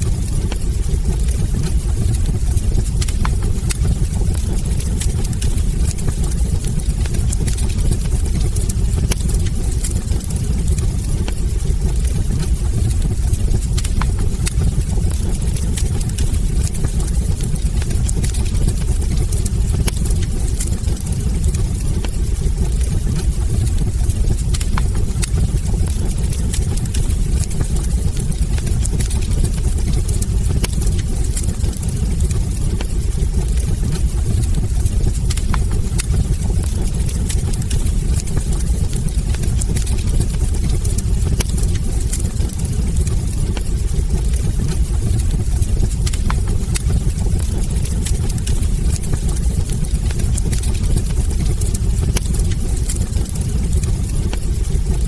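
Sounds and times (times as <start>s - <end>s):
logs crackling and popping: 0.0s - 55.0s
rumble of fire flames: 0.0s - 55.0s.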